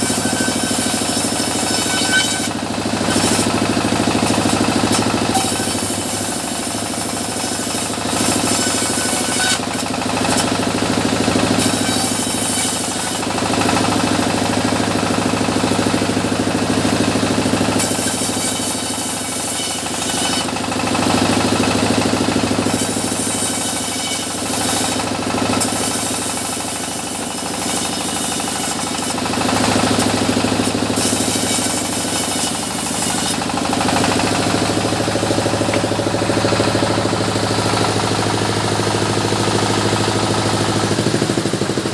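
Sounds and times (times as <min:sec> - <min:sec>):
saw cutting through wood: 0:00.0 - 0:41.9
sawmill machinery hum: 0:00.0 - 0:41.9.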